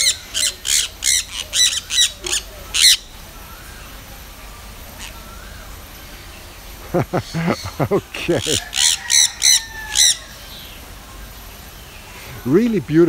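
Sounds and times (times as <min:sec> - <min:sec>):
birds squawking harshly: 0:00.0 - 0:04.0, 0:04.7 - 0:12.9.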